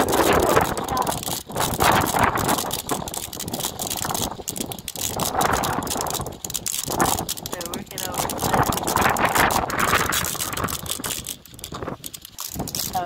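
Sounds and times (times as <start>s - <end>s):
gusting wind buffeting microphone: 0.0s - 13.0s.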